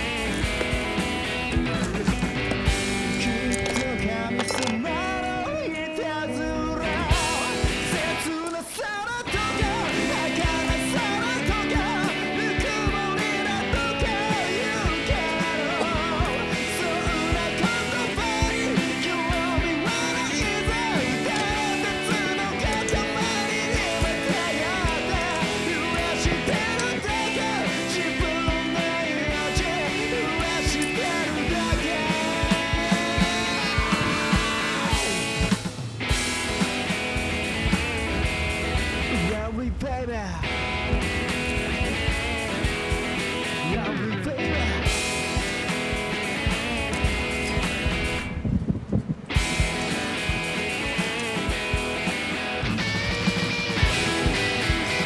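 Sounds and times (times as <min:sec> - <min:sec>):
steady drum beat: 0:00.0 - 0:03.8, 0:07.1 - 0:08.3, 0:09.3 - 0:39.4, 0:40.4 - 0:43.8, 0:44.9 - 0:48.4, 0:49.4 - 0:55.0
man singing rock song: 0:00.0 - 0:48.3, 0:49.4 - 0:55.0.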